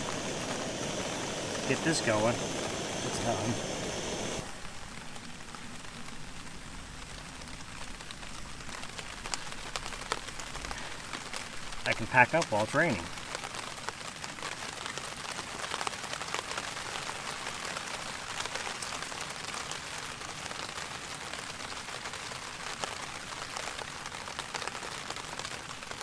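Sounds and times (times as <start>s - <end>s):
steady rain with ticking drops: 0.0s - 26.0s.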